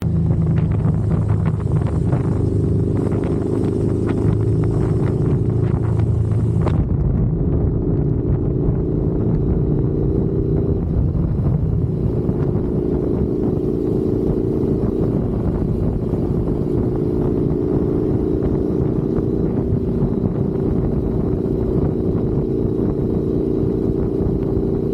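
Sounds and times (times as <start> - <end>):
motorcycle engine running: 0.0 - 24.9
wind noise on microphone: 0.0 - 24.9.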